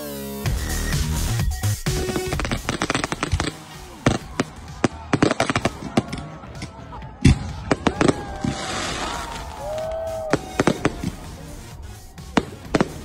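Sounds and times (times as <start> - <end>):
fireworks crackling: 1.6 - 13.0
fireworks bangs and cracks: 1.8 - 13.0.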